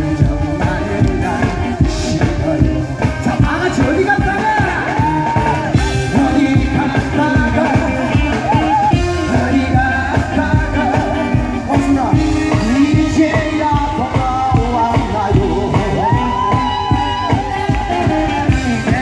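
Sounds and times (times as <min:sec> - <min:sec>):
accompaniment music with beat: 0:00.0 - 0:19.0
man singing into microphone: 0:00.0 - 0:19.0.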